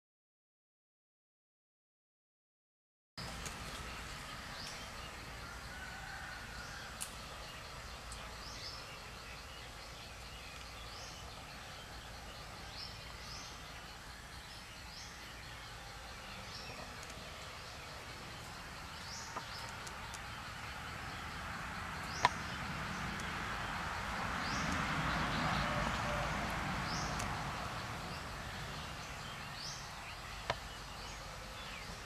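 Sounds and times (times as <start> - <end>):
bird chirping: 3.2 - 32.0.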